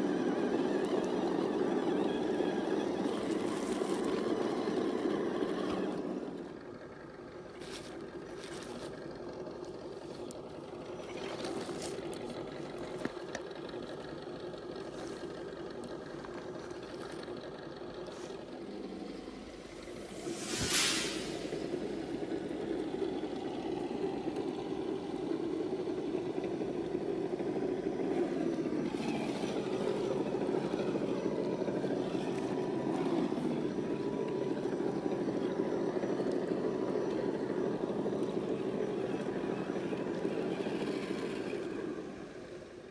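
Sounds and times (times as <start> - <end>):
electric motor and gears buzzing: 0.0 - 6.6, 7.5 - 42.8.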